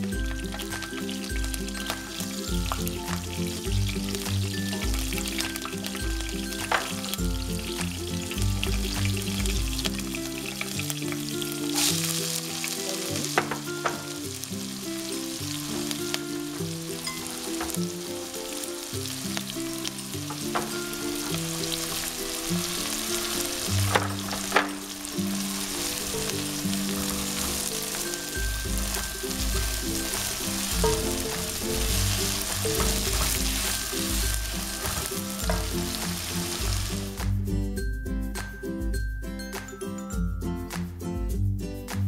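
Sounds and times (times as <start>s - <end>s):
seeds crackling in hot oil: 0.0s - 37.3s
onions sizzling: 0.0s - 37.4s
background music with held notes: 0.0s - 42.0s.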